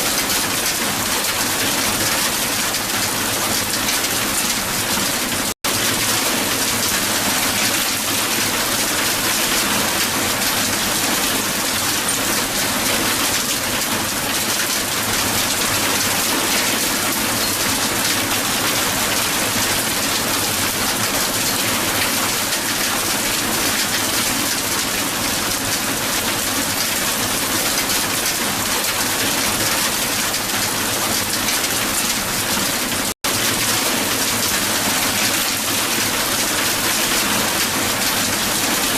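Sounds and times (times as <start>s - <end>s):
hail pelting hard surface: 0.0s - 38.9s.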